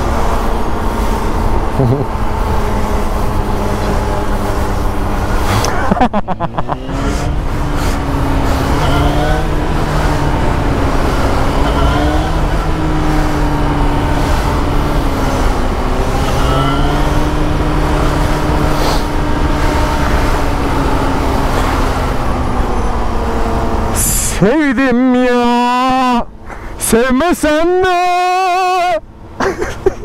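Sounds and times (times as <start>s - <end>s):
motorcycle engine revving: 0.0s - 24.5s
wind and road noise: 0.0s - 30.0s.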